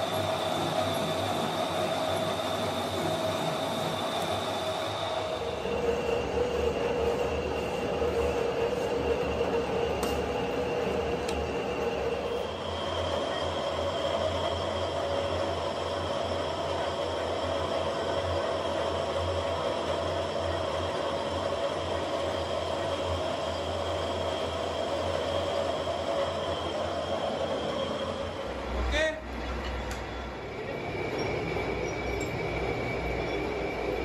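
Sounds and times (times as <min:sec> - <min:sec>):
metal lathe cutting whine: 0:00.0 - 0:34.0.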